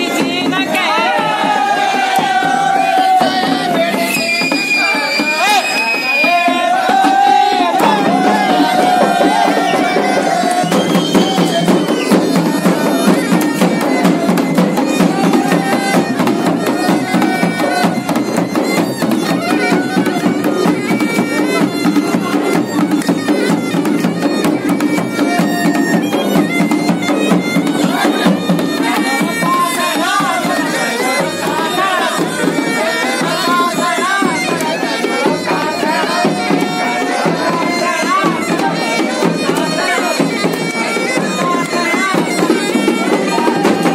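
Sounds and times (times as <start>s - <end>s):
fast continuous drumming: 0.0s - 43.9s
bagpipe drone and melody: 7.8s - 43.9s.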